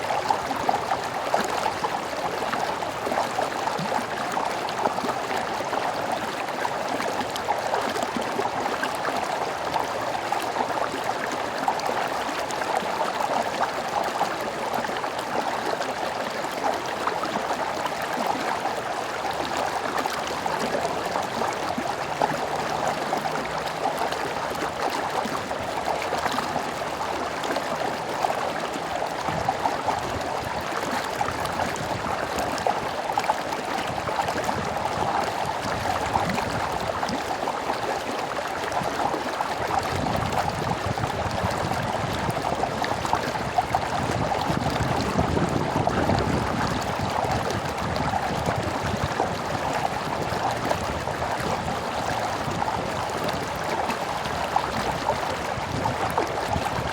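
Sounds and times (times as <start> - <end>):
stream water babbling: 0.0 - 56.9.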